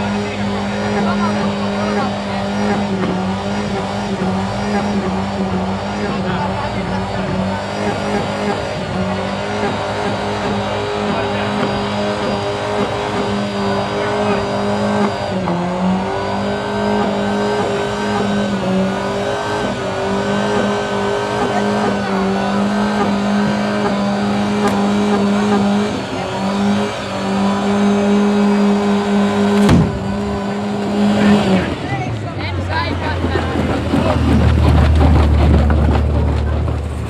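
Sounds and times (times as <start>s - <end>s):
car engine revving during burnout: 0.0s - 37.0s.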